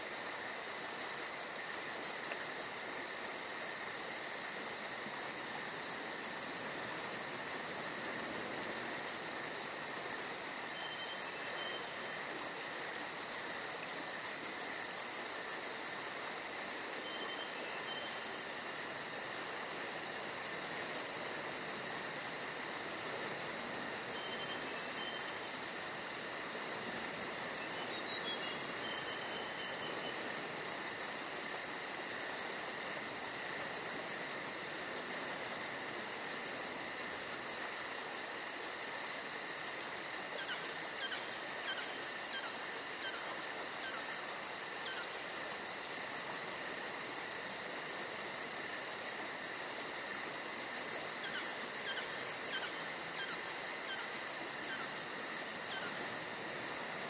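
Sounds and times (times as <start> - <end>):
crickets chirping: 0.0 - 57.0
faint background hiss: 0.0 - 57.0.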